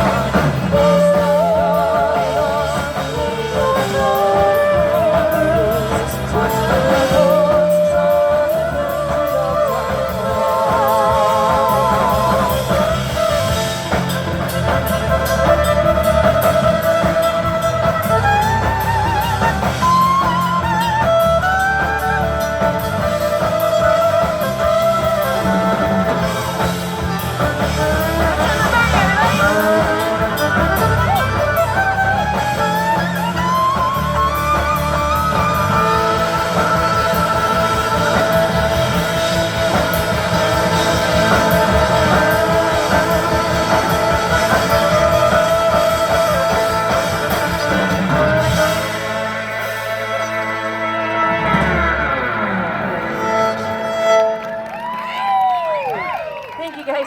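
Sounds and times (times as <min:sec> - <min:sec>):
person singing: 0:00.0 - 0:52.1
guitar: 0:00.0 - 0:57.0.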